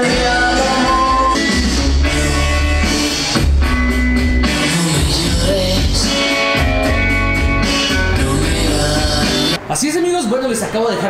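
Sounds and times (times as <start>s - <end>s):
heavy subwoofer bass: 0.0s - 9.6s
loud song through car speakers: 0.0s - 9.6s.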